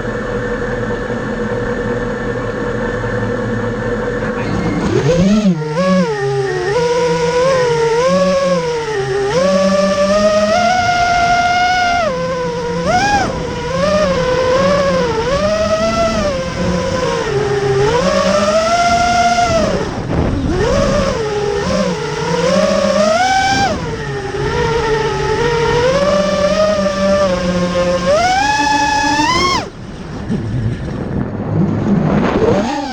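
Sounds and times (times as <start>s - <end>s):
quadcopter motors whining: 0.0s - 32.9s.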